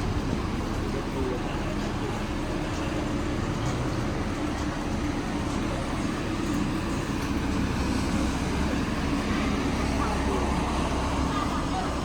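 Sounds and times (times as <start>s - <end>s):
road traffic hum: 0.0s - 12.0s.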